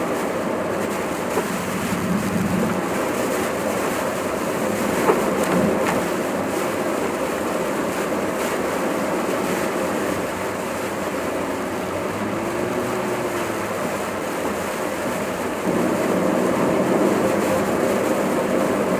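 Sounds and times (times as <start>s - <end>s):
car engine: 0.0s - 18.9s
rain on car: 0.0s - 18.9s
tyres rushing on wet road: 0.0s - 18.9s.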